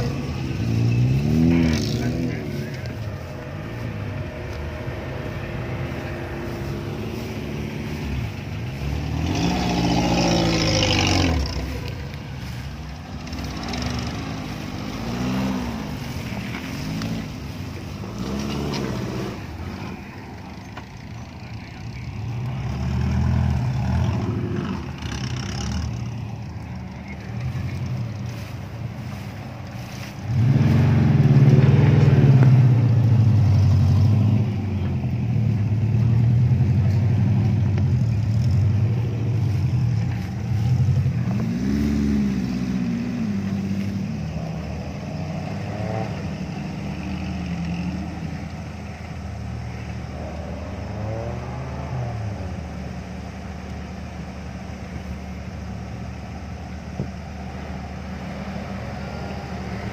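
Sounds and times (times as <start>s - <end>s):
off-road engines revving: 0.0s - 59.9s.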